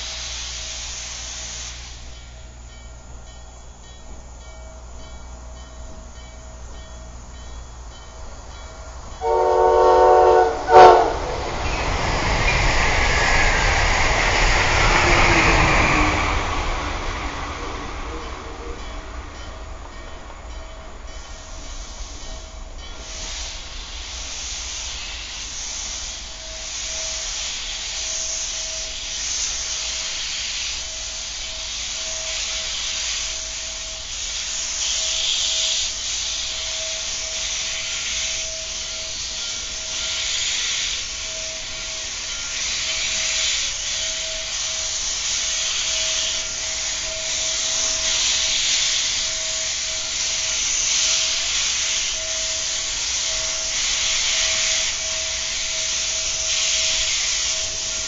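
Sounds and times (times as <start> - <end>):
steam hissing in blasts: 0.0 - 2.7, 8.5 - 18.9, 21.1 - 58.0.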